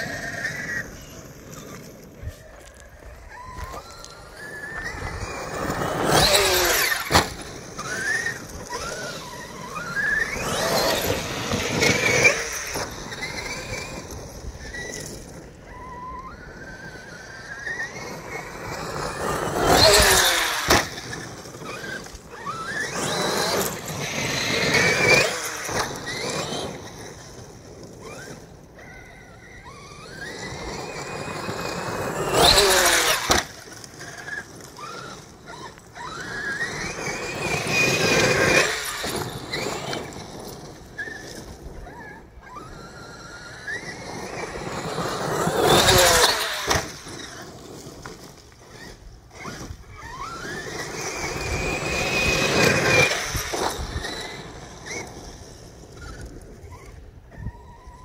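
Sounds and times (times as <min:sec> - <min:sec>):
tyres rushing on gravel: 0:00.0 - 0:56.5
electric motor whining: 0:00.0 - 0:58.0.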